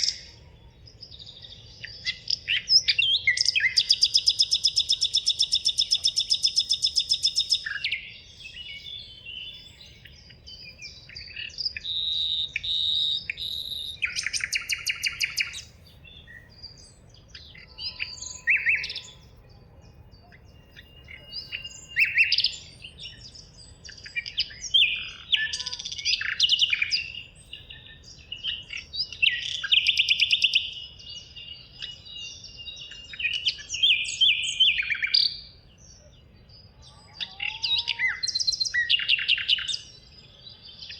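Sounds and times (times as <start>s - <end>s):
bird trill: 0.0s - 40.9s
songbirds singing: 0.0s - 40.9s.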